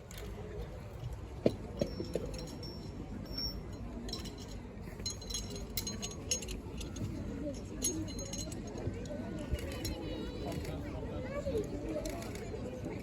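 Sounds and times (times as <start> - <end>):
background hubbub: 0.0 - 13.0.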